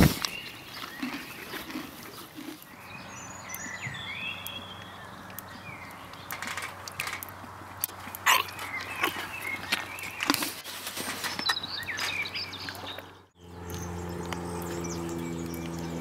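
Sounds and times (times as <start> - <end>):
pony chewing grass: 0.0 - 16.0
bird chirps: 0.2 - 7.4, 8.1 - 10.4, 11.2 - 16.0.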